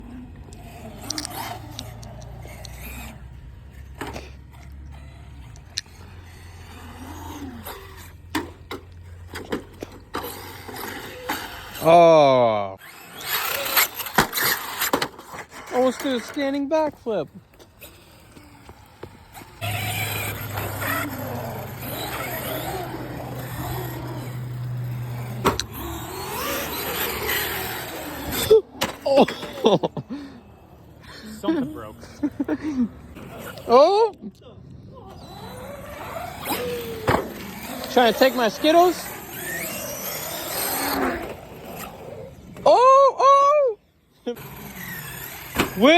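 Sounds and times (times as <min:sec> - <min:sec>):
electric motor and gears whirring: 0:00.0 - 0:45.9.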